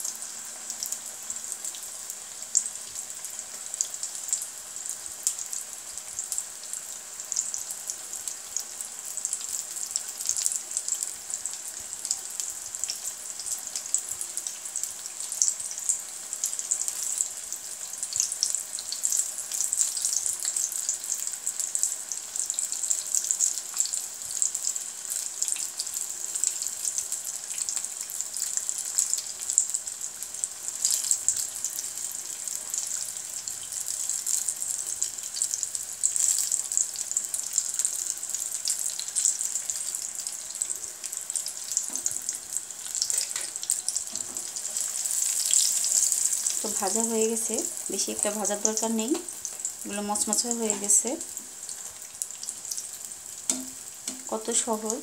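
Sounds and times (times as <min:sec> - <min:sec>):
deep-frying sizzle: 0:00.0 - 0:55.0.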